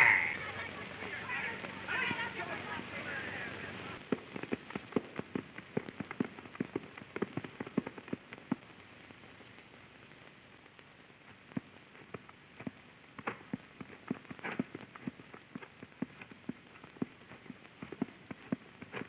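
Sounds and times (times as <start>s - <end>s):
horse hooves clopping on dirt: 0.0s - 19.0s.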